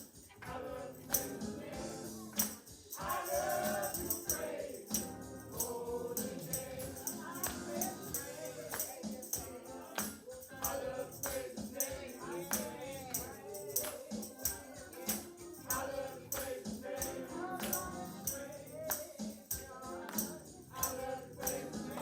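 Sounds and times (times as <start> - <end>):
congregation singing: 0.0 - 22.0
tambourine struck and shaken: 0.0 - 22.0.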